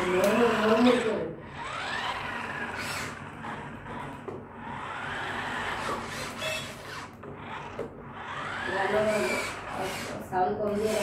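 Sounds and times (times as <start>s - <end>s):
rc car electric motors whining: 0.0s - 11.0s.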